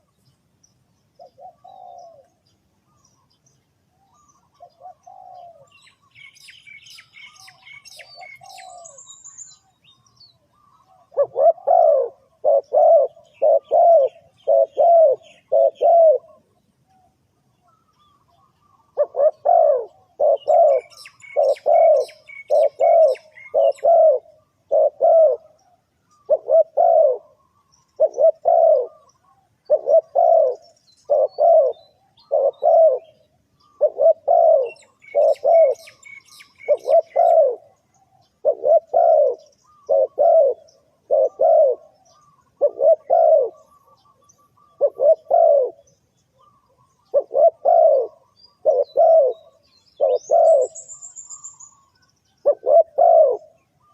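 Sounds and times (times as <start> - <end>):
small bird twittering: 0.0 - 16.4, 17.6 - 53.9
dove cooing: 1.2 - 3.0, 3.9 - 53.9.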